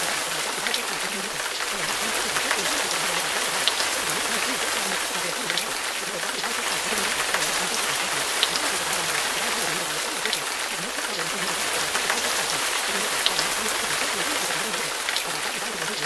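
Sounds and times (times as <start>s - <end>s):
faint muffled voice murmuring: 0.0s - 16.0s
steady rain: 0.0s - 16.0s.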